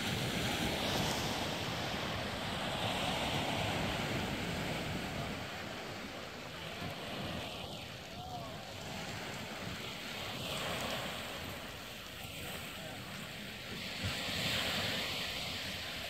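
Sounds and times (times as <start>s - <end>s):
small waves washing onto beach: 0.0s - 16.0s.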